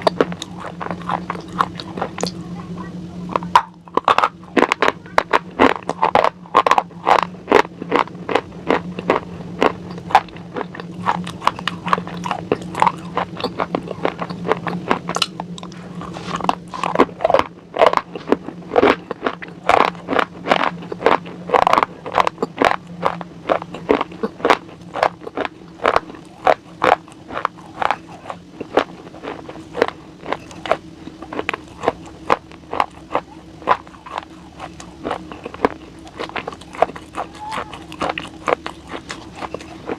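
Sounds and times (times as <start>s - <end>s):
crunchy chewing: 0.0s - 39.9s
faint low hum: 0.0s - 39.9s.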